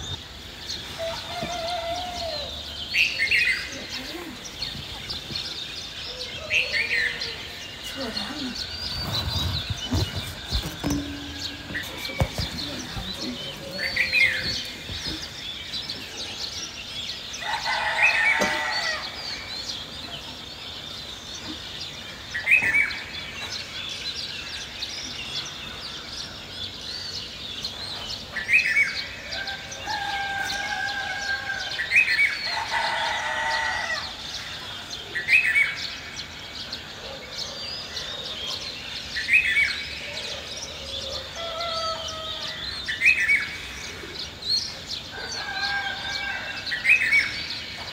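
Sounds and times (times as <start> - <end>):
birds twittering: 0.0 - 47.9.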